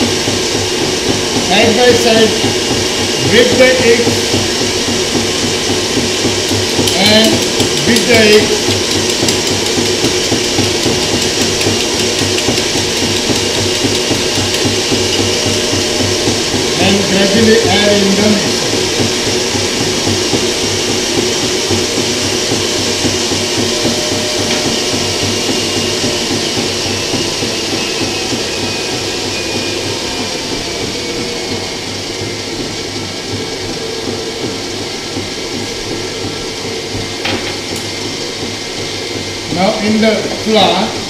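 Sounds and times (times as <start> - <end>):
electric stand mixer running: 0.0 - 41.0.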